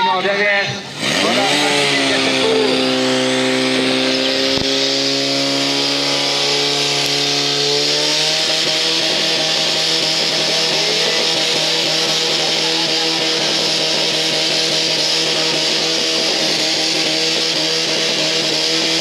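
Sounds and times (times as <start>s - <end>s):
pump engine running at high revs: 0.0s - 19.0s.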